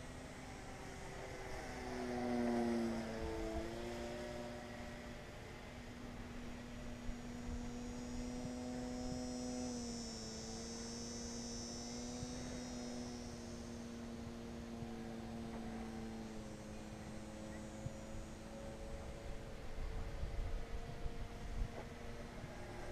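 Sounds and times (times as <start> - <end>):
model plane motor humming: 0.0 - 22.9
thin high whine: 0.0 - 22.9.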